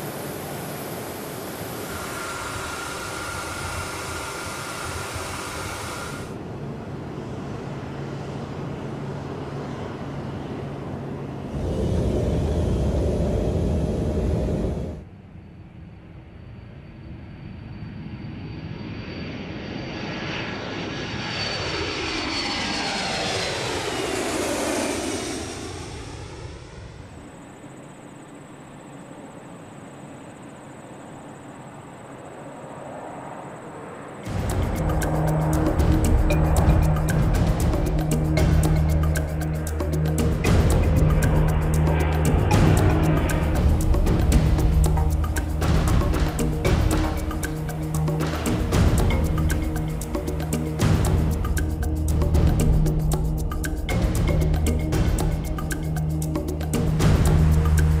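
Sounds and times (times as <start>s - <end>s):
jet engine whine: 0.0s - 58.0s
jet passing overhead: 0.0s - 58.0s
low rumble of takeoff: 0.0s - 58.0s.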